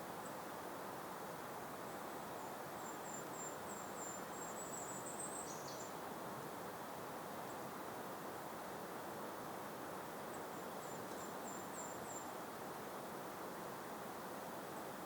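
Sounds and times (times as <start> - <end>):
steady breeze: 0.0 - 15.0.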